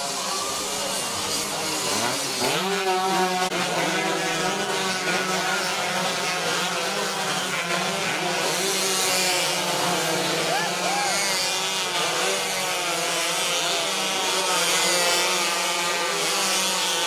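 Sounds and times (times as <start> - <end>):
motorcycle engines revving high: 0.0 - 17.0.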